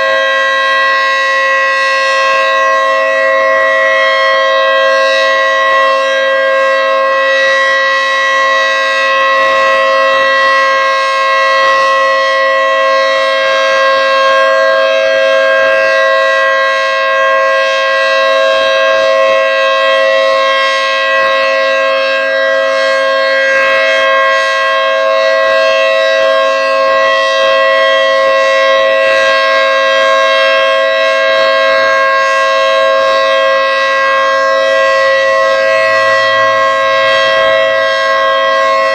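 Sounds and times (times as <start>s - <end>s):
outdoor warning siren chord: 0.0s - 38.9s.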